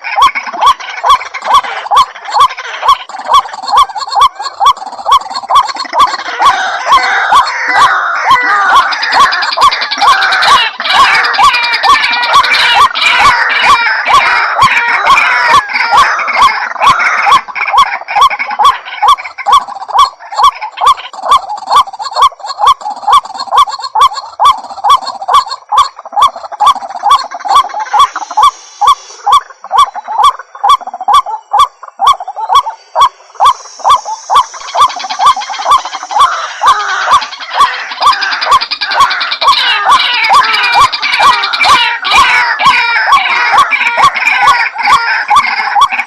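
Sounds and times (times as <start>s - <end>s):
waterhen calling: 0.0s - 46.0s.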